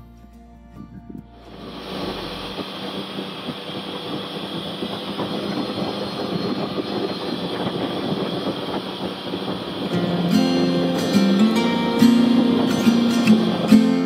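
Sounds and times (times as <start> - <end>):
snowmobile engine droning: 1.4 - 14.0
snowmobile track noise: 1.5 - 14.0.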